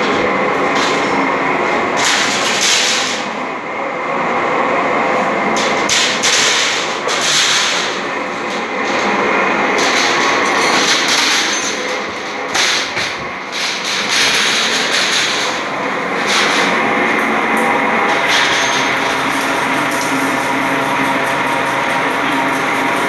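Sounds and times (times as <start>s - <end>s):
roller machine clattering: 0.0s - 3.4s, 5.4s - 23.0s.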